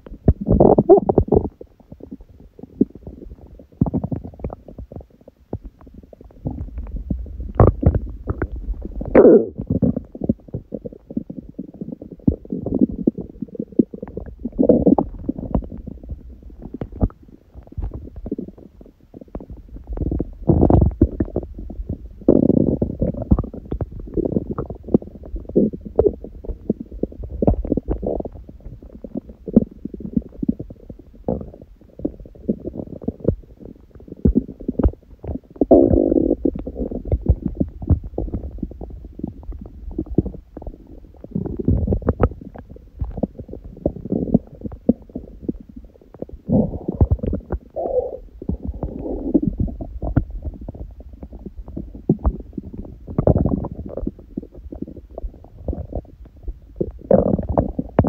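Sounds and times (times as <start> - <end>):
gurgling pops and clicks: 0.0 - 18.6, 19.2 - 58.0
stomach growling: 0.0 - 58.0.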